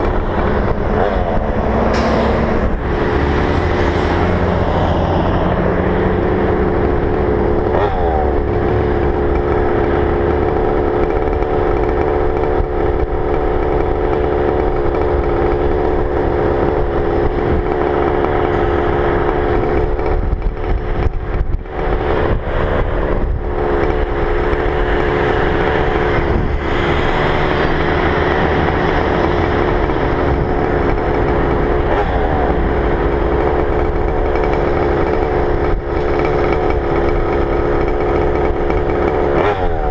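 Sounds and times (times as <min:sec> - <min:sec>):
two-stroke engine revving high: 0:00.0 - 0:39.9.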